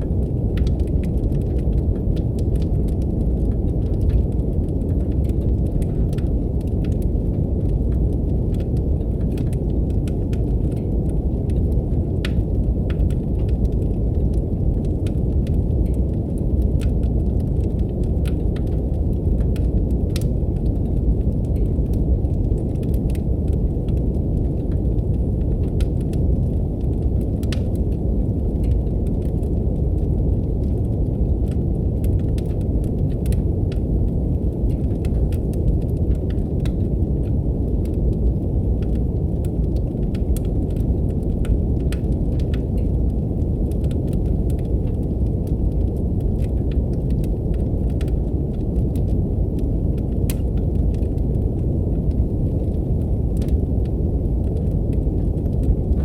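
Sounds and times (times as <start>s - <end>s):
brown noise hiss: 0.0s - 56.0s
wood fire crackling: 0.0s - 56.0s.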